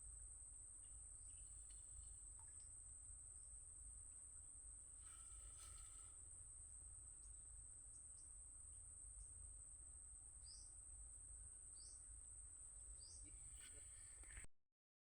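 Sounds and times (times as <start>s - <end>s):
insects droning: 0.0s - 14.4s.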